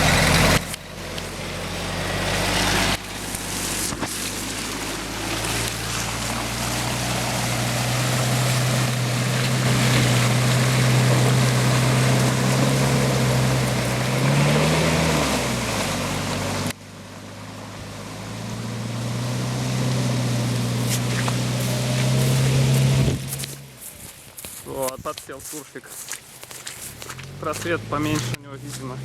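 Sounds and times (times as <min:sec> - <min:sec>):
suv engine revving in mud: 0:00.0 - 0:24.0, 0:25.9 - 0:29.0.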